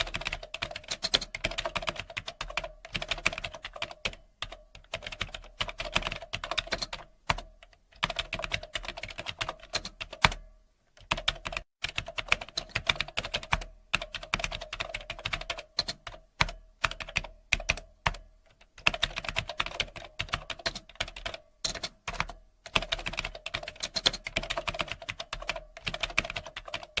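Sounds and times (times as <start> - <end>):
typing on computer keyboard: 0.0 - 10.4, 11.0 - 27.0.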